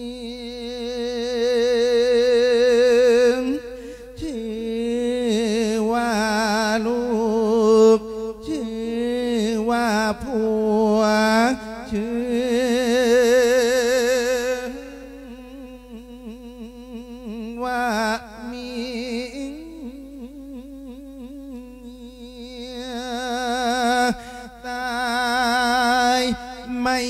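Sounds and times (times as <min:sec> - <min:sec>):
man chanting into a microphone: 0:00.0 - 0:27.0.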